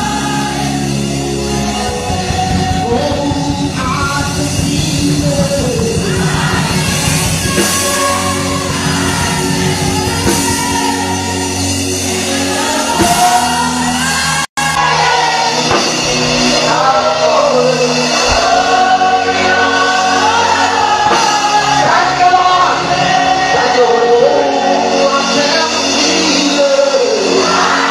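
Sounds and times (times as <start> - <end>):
live band or keyboard: 0.0 - 27.9
singer and congregation singing: 0.0 - 27.9.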